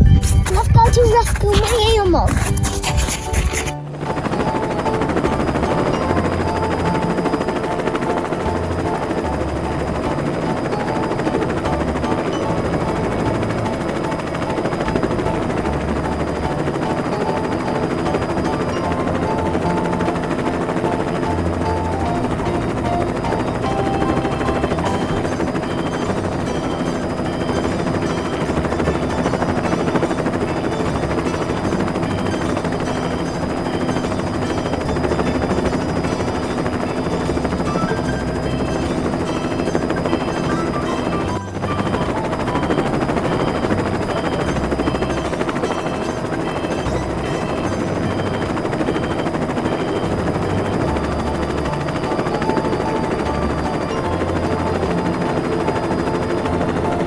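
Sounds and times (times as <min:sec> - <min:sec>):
background music: 0:00.0 - 0:57.0
helicopter rotor chopping whir: 0:00.0 - 0:57.0.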